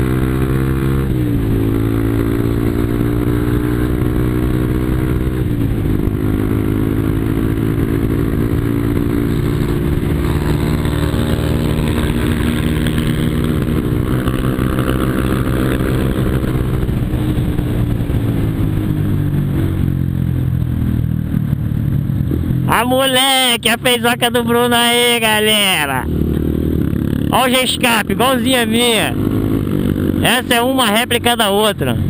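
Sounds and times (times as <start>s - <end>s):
motorcycle engine droning: 0.0s - 32.0s.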